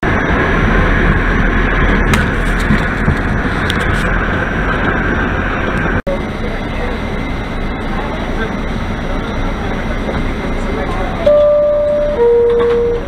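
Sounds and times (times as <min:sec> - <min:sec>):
high whine: 0:00.0 - 0:13.0
train wheels rumbling on track: 0:00.0 - 0:13.0.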